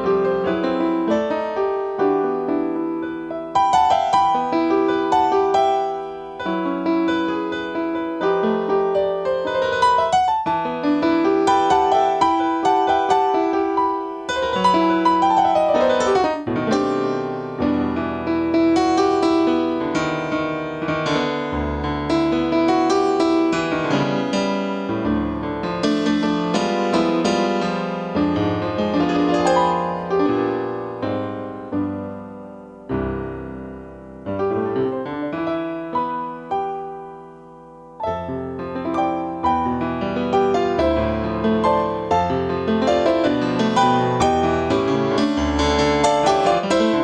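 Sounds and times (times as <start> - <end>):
solo piano: 0.0 - 47.0.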